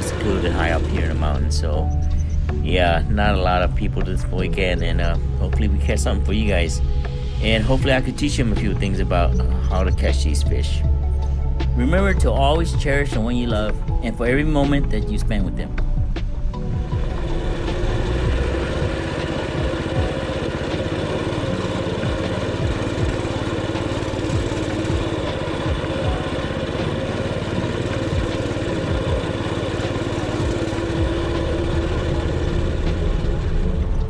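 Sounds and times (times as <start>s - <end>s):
small moped engine running: 0.0s - 34.0s.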